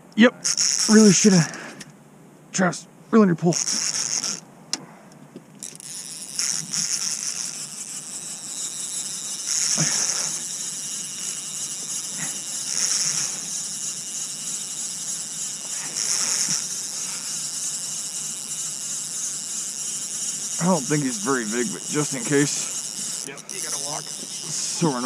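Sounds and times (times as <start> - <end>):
fishing reel buzzing: 0.2 - 1.8, 3.4 - 4.4, 5.6 - 25.0.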